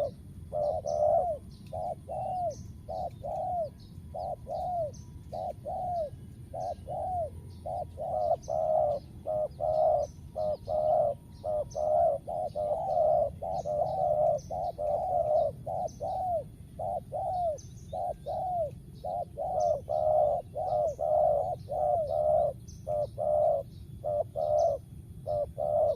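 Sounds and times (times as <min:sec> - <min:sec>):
doves cooing: 0:00.0 - 0:25.9
small bird chirping: 0:00.0 - 0:25.9.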